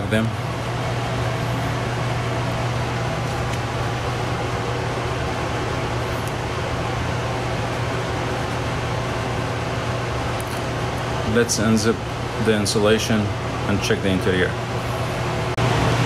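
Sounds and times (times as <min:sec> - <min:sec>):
fan humming and hissing: 0:00.0 - 0:16.0.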